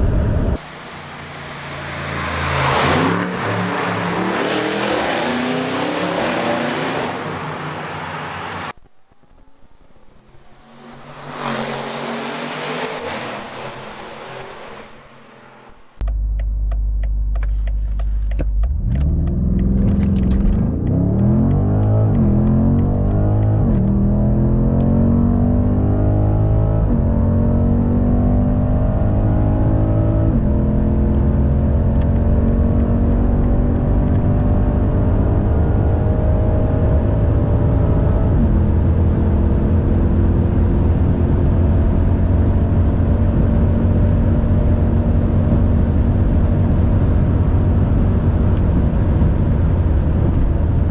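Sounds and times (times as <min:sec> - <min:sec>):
car engine accelerating hard: 0:10.1 - 0:50.9.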